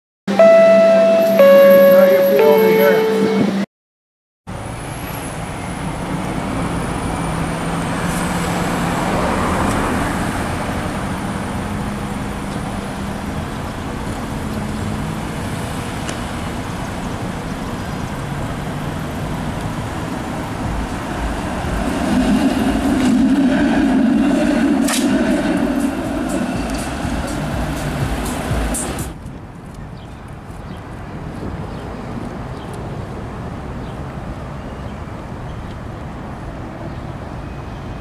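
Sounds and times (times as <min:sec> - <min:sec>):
cars passing: 0:04.5 - 0:38.0
streetcar running by: 0:04.5 - 0:38.0.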